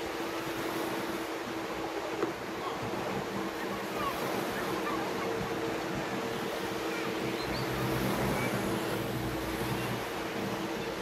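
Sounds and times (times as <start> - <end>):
low engine hum: 0.0 - 11.0
small waves washing onto sand: 0.0 - 11.0.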